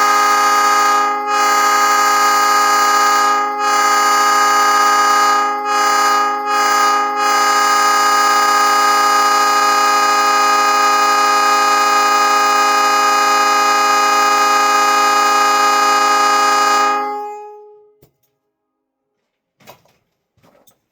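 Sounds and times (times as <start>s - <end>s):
train horn chord: 0.0s - 18.0s.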